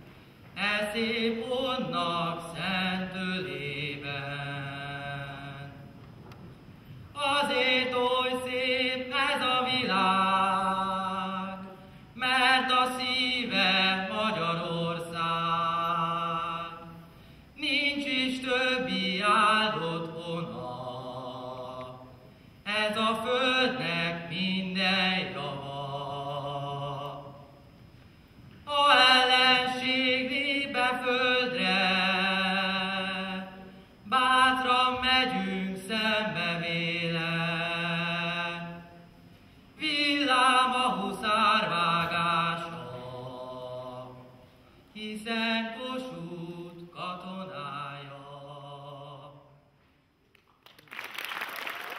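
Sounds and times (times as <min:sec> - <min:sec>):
young man singing folk song: 0:00.6 - 0:05.9, 0:07.1 - 0:16.9, 0:17.6 - 0:22.1, 0:22.7 - 0:27.5, 0:28.6 - 0:38.9, 0:39.8 - 0:49.5.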